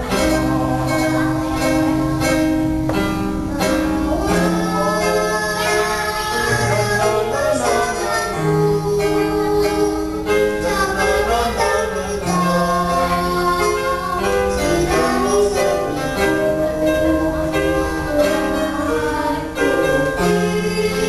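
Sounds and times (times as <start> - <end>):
girl singing into a microphone: 0.0 - 21.0.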